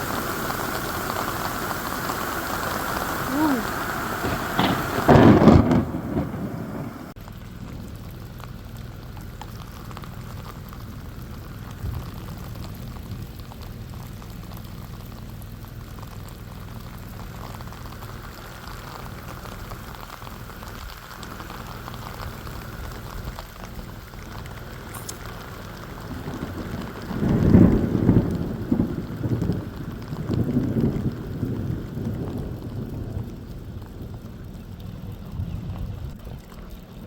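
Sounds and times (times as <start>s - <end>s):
raindrops ticking: 0.0s - 37.0s
steady rain: 0.0s - 37.0s.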